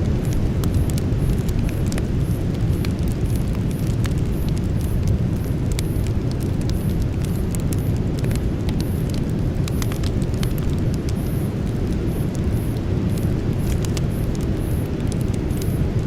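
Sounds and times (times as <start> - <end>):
campfire crackling and popping: 0.0 - 16.0
steady low rumble: 0.0 - 16.0.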